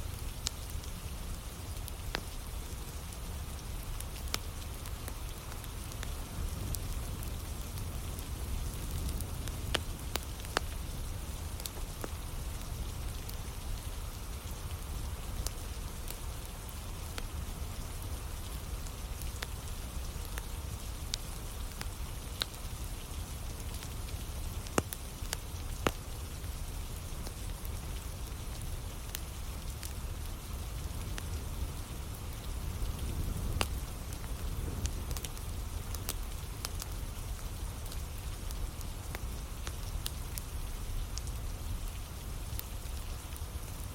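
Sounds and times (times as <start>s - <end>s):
steady rain falling: 0.0s - 43.9s
wood fire crackling and popping: 0.0s - 43.9s.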